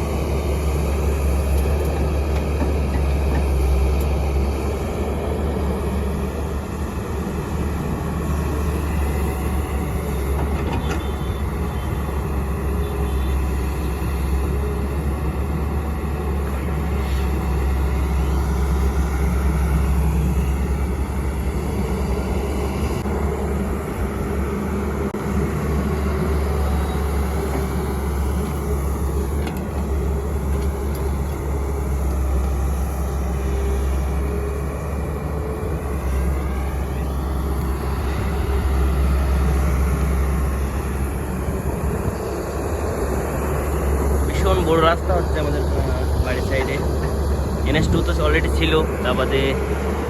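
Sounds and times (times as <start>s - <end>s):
digger engine droning: 0.0s - 50.0s
high machine whines: 3.5s - 50.0s.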